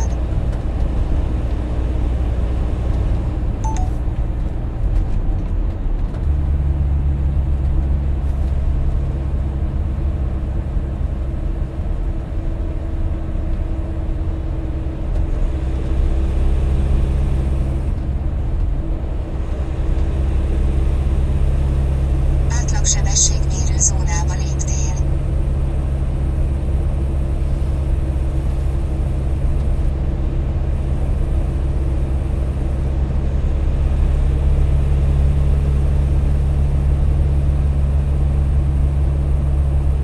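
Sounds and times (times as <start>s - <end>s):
car engine and tyre drone: 0.0s - 24.2s, 25.0s - 40.0s.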